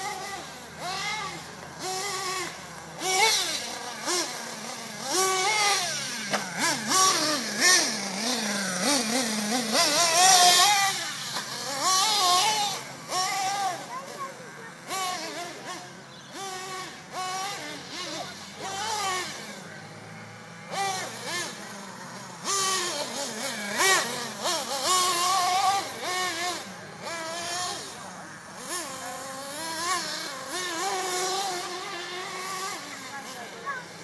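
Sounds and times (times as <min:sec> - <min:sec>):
small engine revving: 0:00.0 - 0:34.0.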